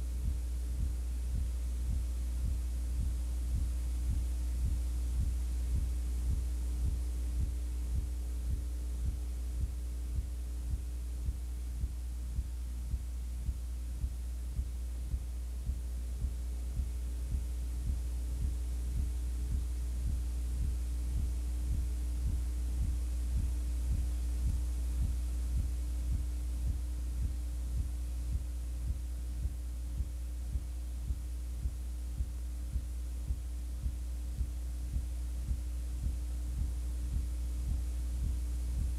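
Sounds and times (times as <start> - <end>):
low electrical hum with throbbing pulse: 0.0 - 38.9.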